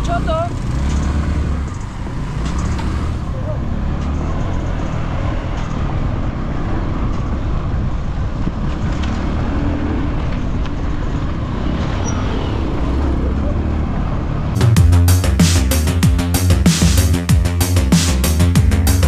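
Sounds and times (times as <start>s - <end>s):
motorcycle engine: 0.0s - 6.9s, 8.7s - 19.0s.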